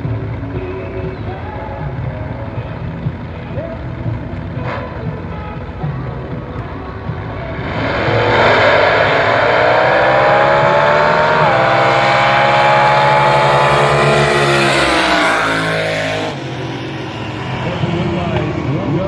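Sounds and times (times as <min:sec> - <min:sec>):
dragster engine at full throttle: 0:00.0 - 0:19.0.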